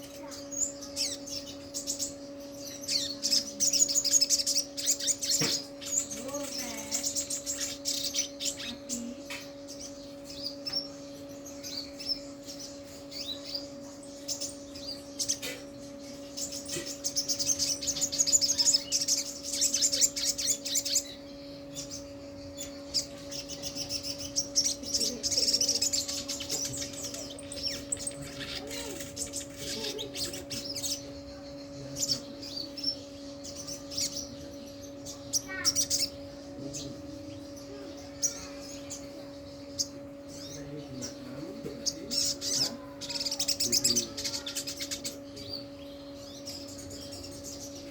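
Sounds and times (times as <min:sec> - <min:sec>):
bird chirping and twittering: 0:00.0 - 0:47.9
steady low hum: 0:00.0 - 0:47.9.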